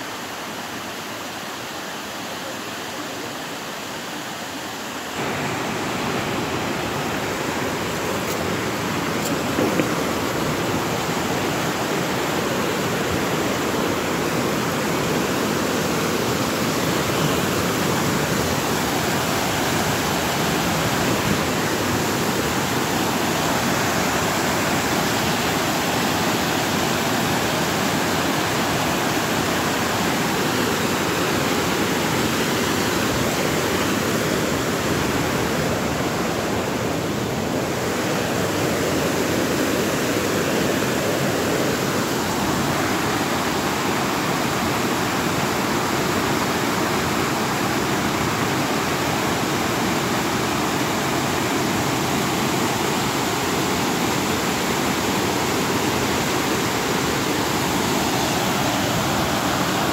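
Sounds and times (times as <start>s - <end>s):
waterfall rushing over rocks: 0.0s - 59.9s.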